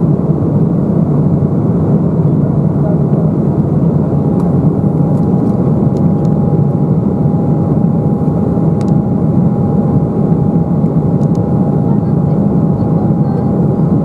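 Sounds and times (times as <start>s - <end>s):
airliner cabin engine rush: 0.0s - 14.0s.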